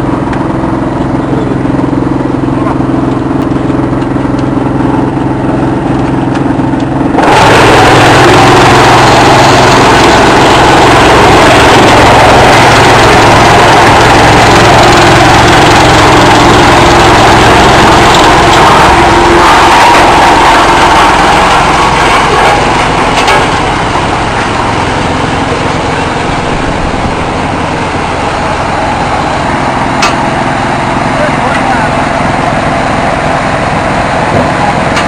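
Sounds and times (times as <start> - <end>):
wood chipper running: 0.0 - 35.0.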